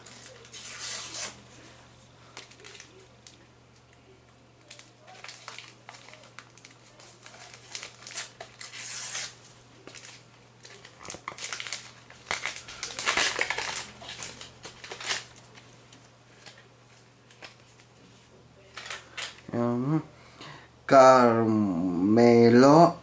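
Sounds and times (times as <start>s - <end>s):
paper stickers crinkling: 0.0s - 3.9s, 4.6s - 19.4s.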